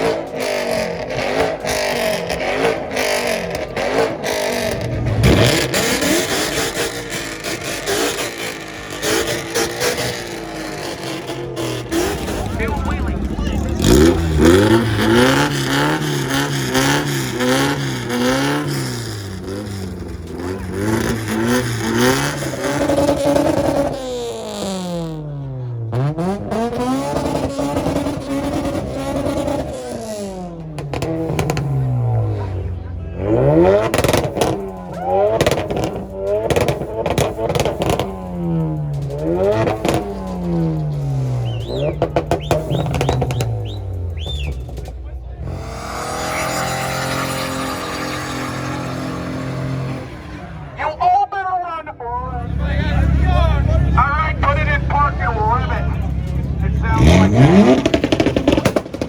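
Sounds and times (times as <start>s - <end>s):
sharp exhaust crackles: 0.0s - 51.1s, 51.8s - 59.0s
car engine revving: 0.0s - 59.0s.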